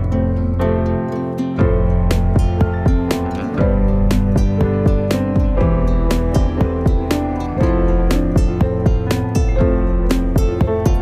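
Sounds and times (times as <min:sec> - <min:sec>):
plucked guitar notes: 0:00.0 - 0:11.0
low bass line: 0:01.6 - 0:11.0.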